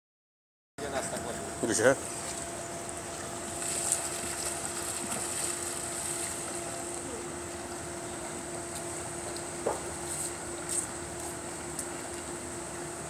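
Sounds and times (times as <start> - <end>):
steady machine hum: 0.8 - 13.0.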